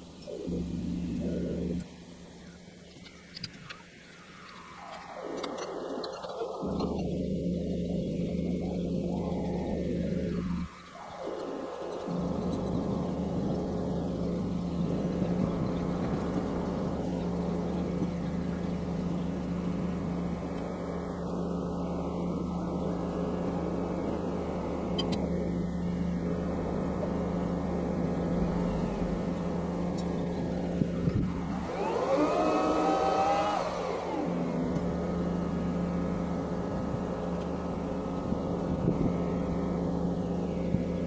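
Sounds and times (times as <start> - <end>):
diesel engine running: 0.0 - 3.4, 4.5 - 41.0
engine revving with rising whine: 0.0 - 41.0.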